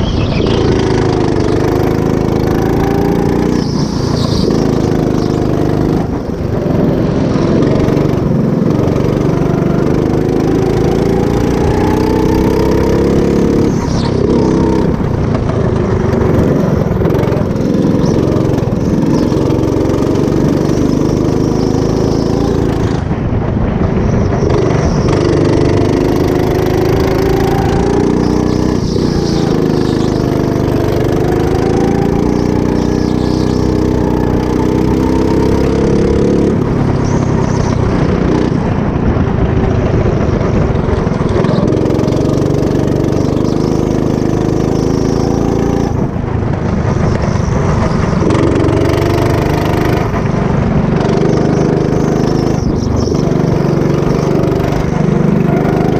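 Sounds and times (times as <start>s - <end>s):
go-kart engine revving: 0.0s - 55.9s.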